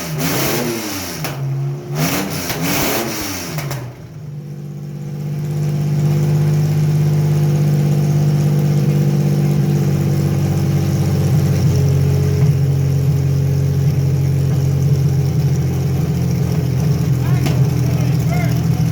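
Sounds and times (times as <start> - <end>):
car engine running with misfire: 0.0 - 18.9.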